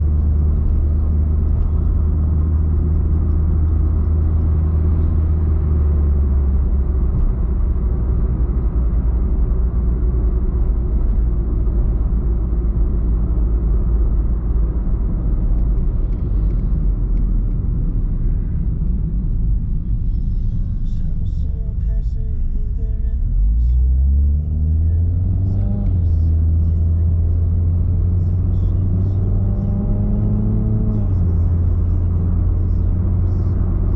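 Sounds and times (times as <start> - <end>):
car engine low drone: 0.0 - 33.9.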